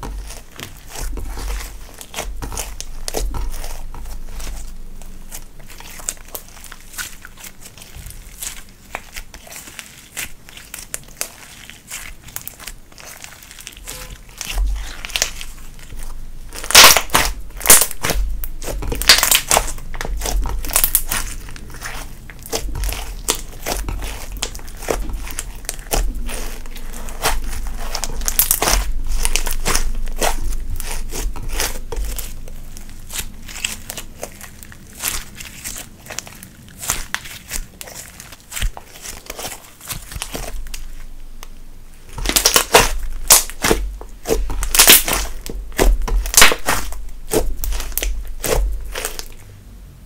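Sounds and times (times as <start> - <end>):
slime crackling and popping: 0.0 - 49.5.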